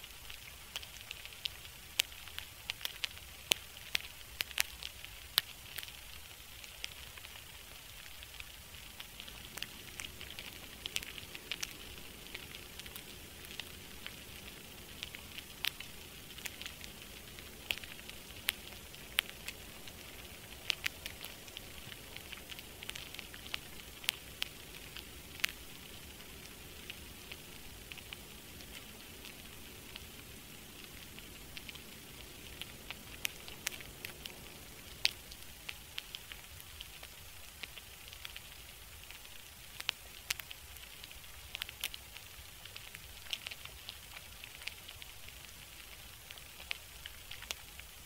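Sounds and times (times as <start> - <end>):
crackles and pops: 0.0 - 48.0
steady hiss: 0.0 - 48.0.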